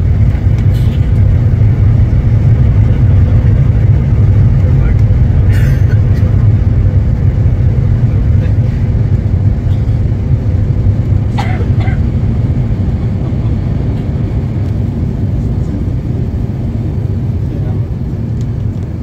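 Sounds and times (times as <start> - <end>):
jet cabin roar: 0.0 - 19.0.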